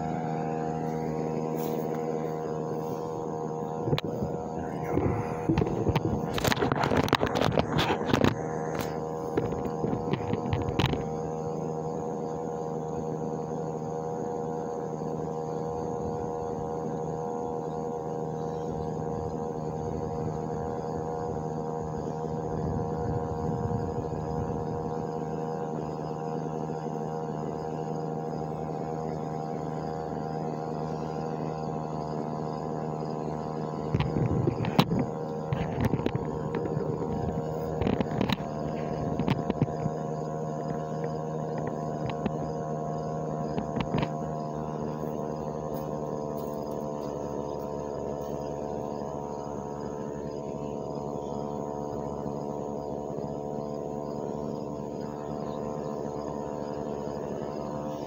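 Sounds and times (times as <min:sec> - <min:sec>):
electrical machine hum: 0:00.0 - 0:58.0.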